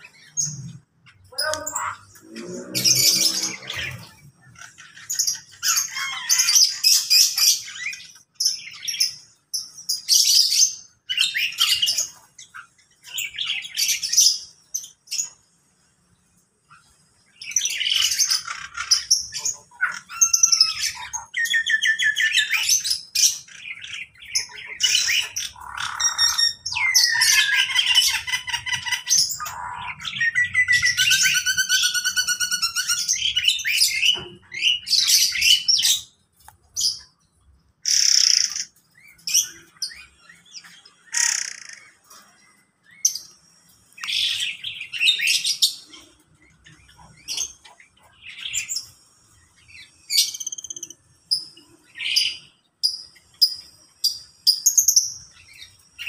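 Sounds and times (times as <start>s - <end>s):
aviary birds calling: 0.0s - 56.0s.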